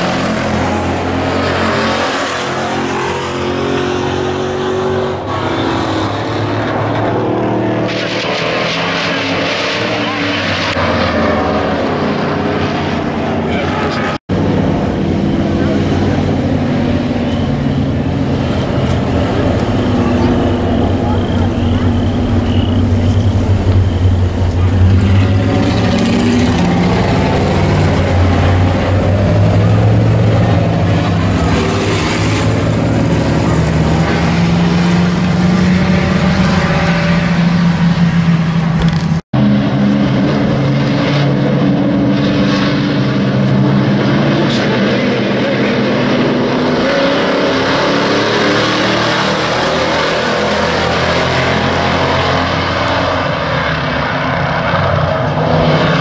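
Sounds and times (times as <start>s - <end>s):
truck engines droning: 0.0s - 56.0s.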